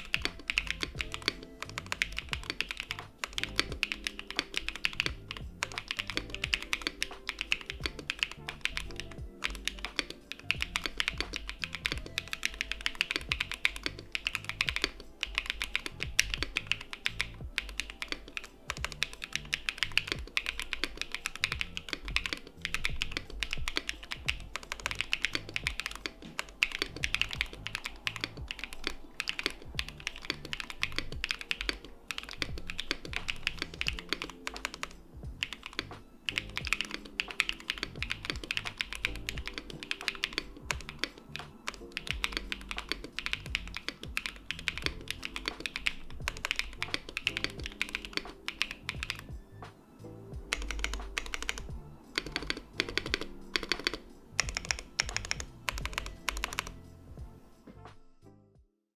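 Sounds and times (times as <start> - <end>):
mechanical keyboard typing: 0.0 - 49.4, 50.4 - 56.8
background music: 0.0 - 58.8.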